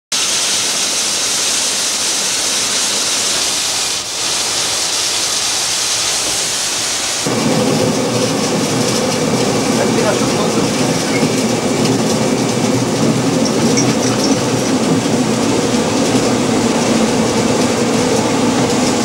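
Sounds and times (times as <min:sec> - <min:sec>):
water mill machinery running: 0:00.1 - 0:19.0
water rushing over weir: 0:00.1 - 0:19.0.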